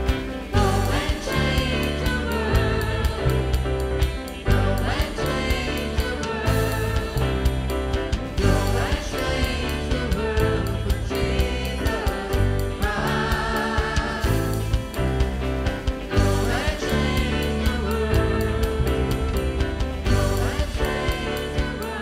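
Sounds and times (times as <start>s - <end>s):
live band playing: 0.0s - 22.0s
steady drum beat: 0.0s - 22.0s.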